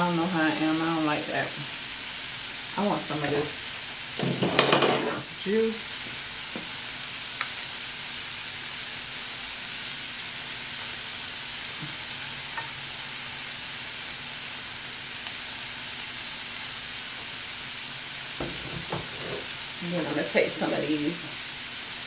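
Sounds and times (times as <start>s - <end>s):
food sizzling on a grill plate: 0.0s - 22.0s.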